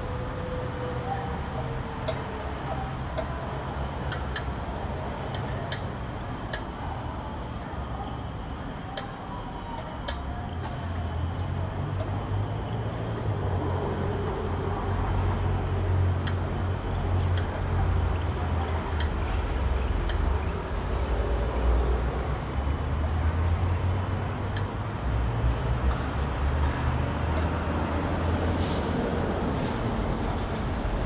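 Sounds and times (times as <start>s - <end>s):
heavy vehicles passing: 0.0s - 31.0s
road traffic rumble: 0.0s - 31.0s.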